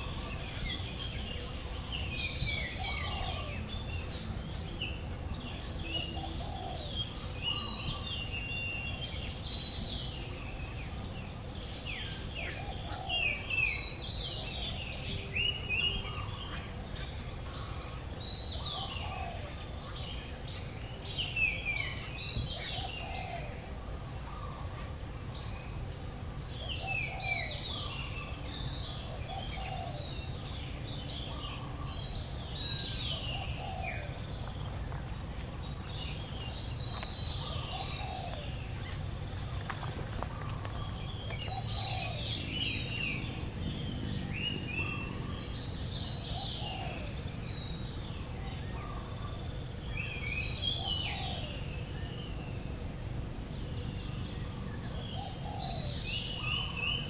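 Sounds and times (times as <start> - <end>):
birds singing: 0.0 - 57.0
low background noise: 0.0 - 57.0.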